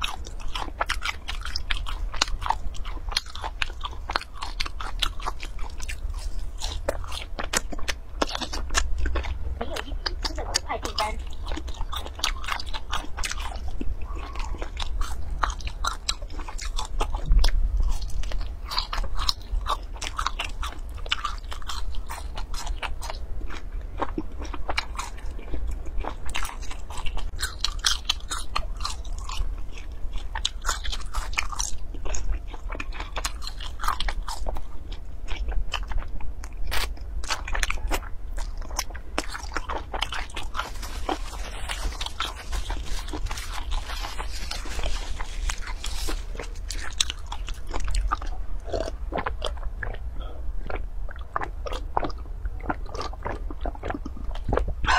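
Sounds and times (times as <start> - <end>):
person crunching crisp food: 0.0 - 54.9.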